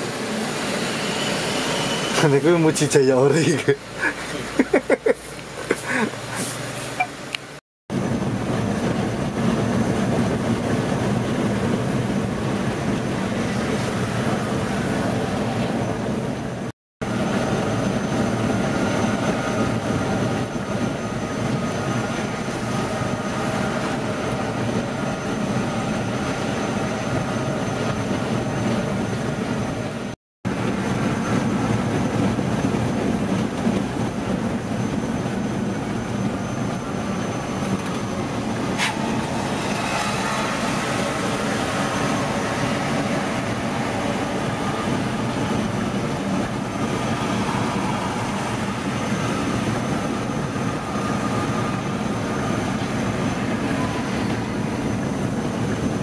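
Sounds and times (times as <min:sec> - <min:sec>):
bus engine running: 0:00.0 - 0:56.0
road noise: 0:00.0 - 0:56.0.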